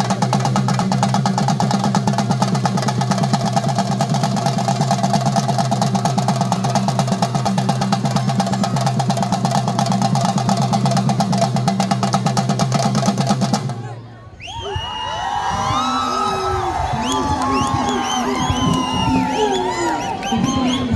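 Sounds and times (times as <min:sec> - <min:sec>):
drum ensemble fast roll: 0:00.0 - 0:14.0, 0:14.6 - 0:20.9.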